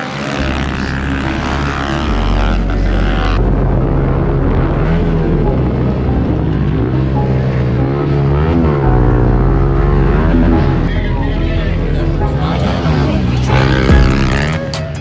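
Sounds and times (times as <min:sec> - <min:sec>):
pit bike engines revving: 0:00.0 - 0:15.0.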